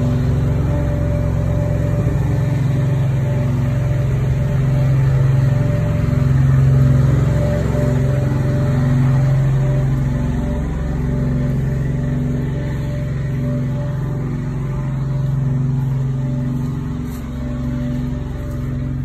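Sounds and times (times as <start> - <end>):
machine engine humming: 0.0 - 19.0.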